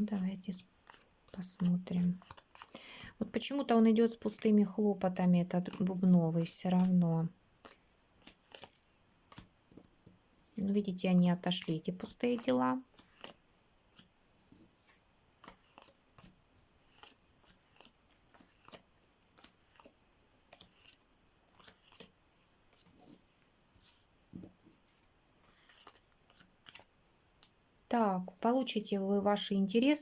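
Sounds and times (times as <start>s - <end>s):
playing cards clicking and rustling: 0.1s - 3.5s, 5.1s - 10.2s, 11.5s - 27.6s.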